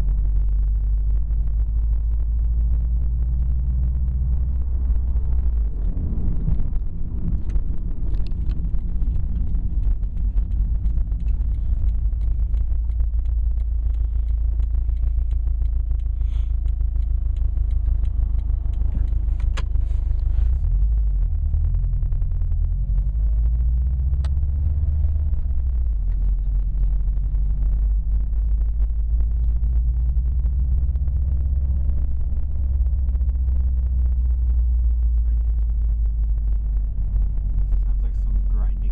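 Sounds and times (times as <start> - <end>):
car engine idling: 0.0 - 38.9
engine ticking and clicks: 0.0 - 38.9.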